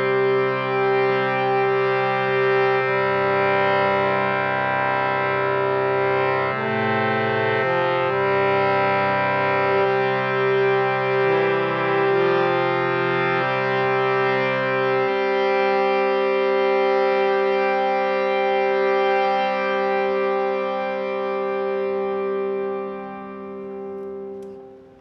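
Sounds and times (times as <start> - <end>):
harmonium playing held chords: 0.0 - 25.0.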